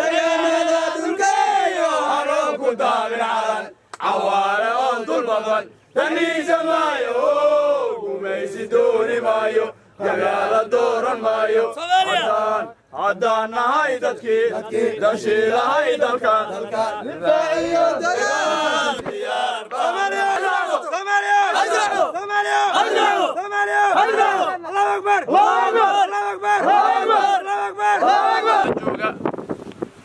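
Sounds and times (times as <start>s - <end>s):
men chanting together: 0.0s - 28.8s.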